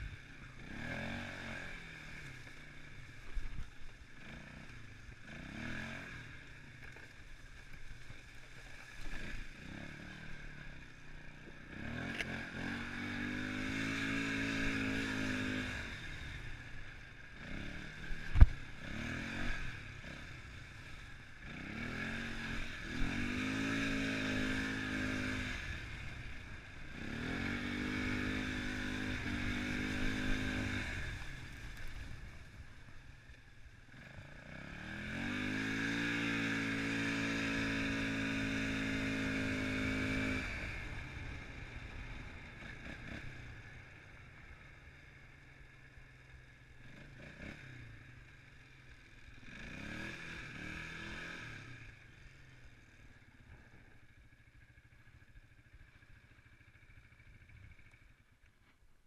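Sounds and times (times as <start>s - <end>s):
atv engine revving: 0.0s - 58.4s.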